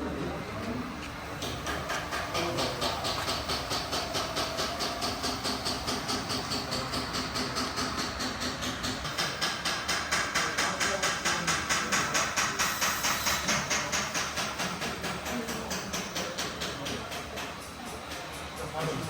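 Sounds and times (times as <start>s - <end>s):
model machine chuffing with hiss: 0.3s - 19.0s.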